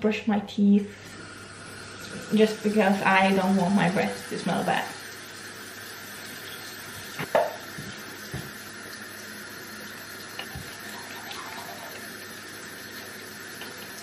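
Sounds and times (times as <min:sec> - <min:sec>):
tap water running into sink: 0:01.0 - 0:14.0.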